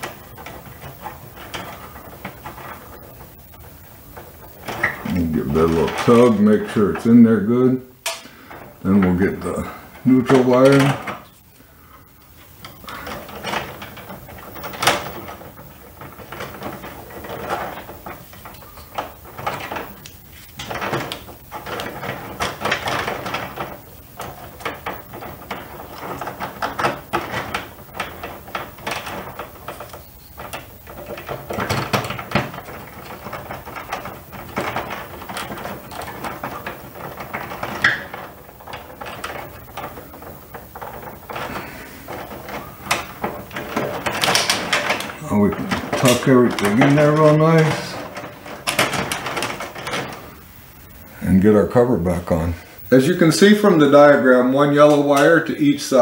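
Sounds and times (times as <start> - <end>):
rustling and scraping wires: 0.0 - 56.0.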